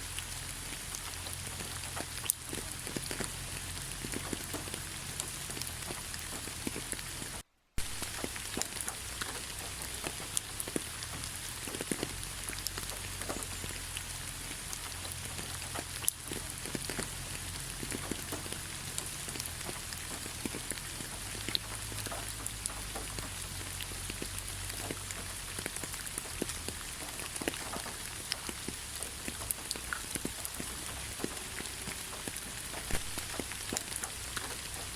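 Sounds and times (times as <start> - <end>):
raindrops ticking: 0.0 - 34.9
steady rain hiss: 0.0 - 34.9.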